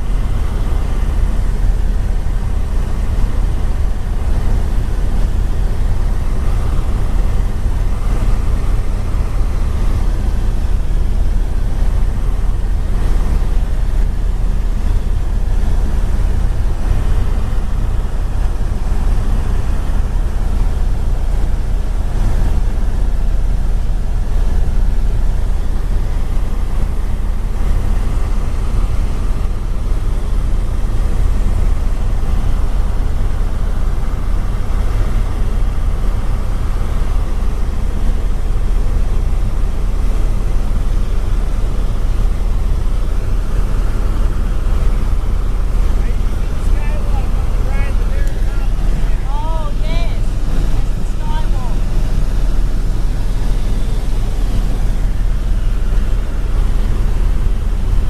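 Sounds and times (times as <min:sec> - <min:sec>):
low engine drone: 0:00.0 - 0:58.0.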